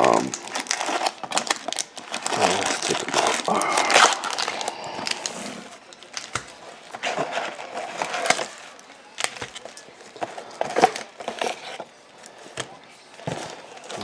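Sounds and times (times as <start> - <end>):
card packs crinkling: 0.0 - 14.0.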